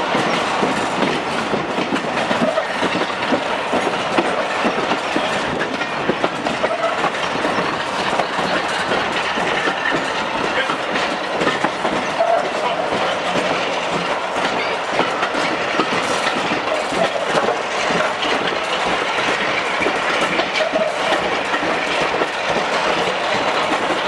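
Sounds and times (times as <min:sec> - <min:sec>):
train wheels rumbling and clicking: 0:00.0 - 0:24.0.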